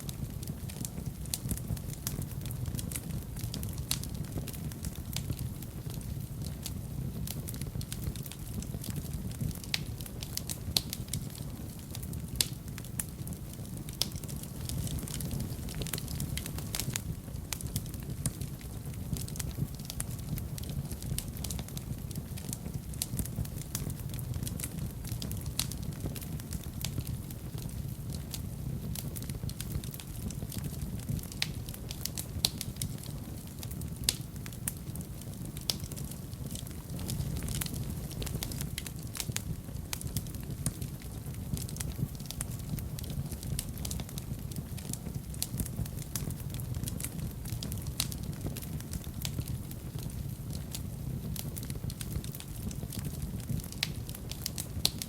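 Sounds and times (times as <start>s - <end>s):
fire crackling: 0.0s - 55.0s
fire rumbling in fireplace: 0.0s - 55.0s
sharp fire pops: 7.2s - 55.0s.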